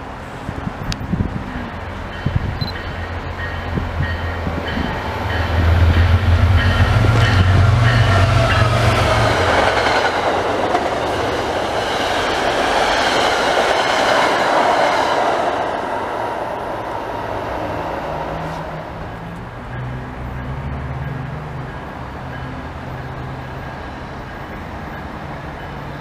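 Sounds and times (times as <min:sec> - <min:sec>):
passing train rumble and clatter: 0:00.0 - 0:26.0.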